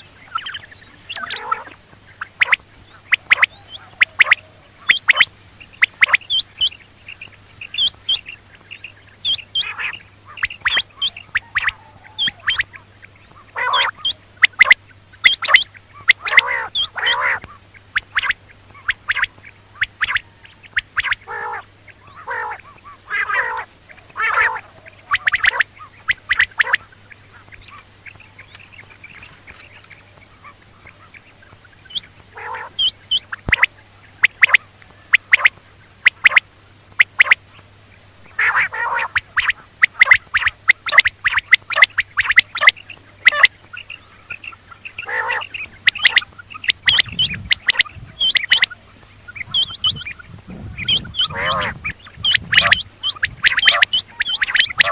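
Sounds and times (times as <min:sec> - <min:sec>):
quail calling: 0:00.0 - 0:54.9.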